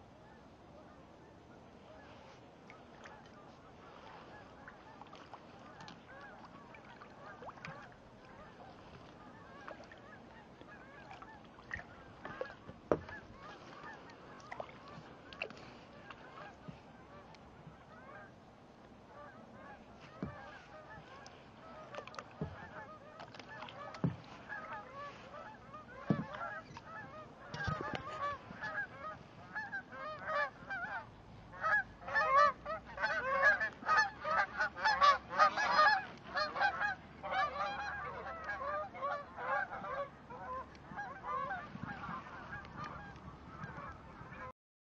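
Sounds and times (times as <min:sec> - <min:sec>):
geese honking: 0:02.8 - 0:18.3, 0:19.1 - 0:44.5.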